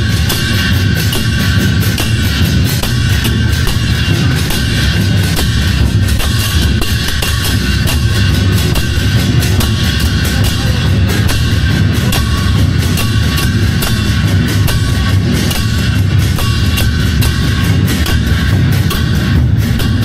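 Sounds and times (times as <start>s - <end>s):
barrel drums beating: 0.0s - 20.0s
hand cymbals ringing: 0.0s - 20.0s.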